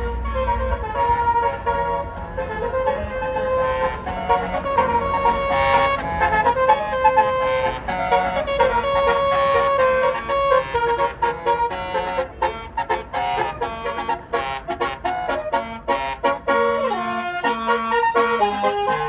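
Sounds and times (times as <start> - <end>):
bus horn playing a melody: 0.0 - 19.0.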